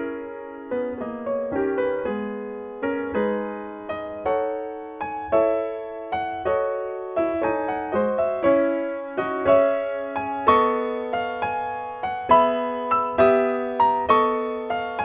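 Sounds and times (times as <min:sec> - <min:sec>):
grand piano notes and chords: 0:00.0 - 0:15.0.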